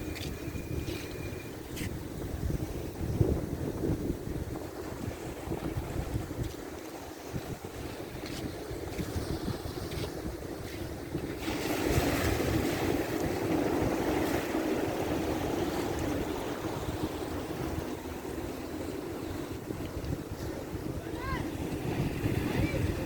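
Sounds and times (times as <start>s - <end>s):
ocean waves washing on shore: 0.0s - 23.0s
wind buffeting microphone: 0.0s - 23.0s.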